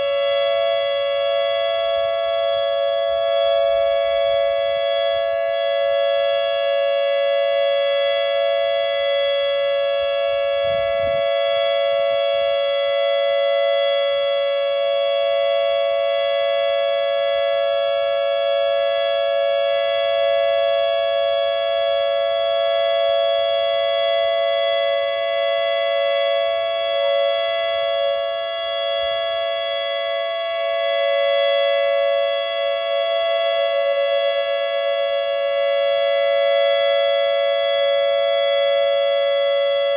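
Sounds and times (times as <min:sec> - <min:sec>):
two-note warning siren: 0:00.0 - 0:39.9.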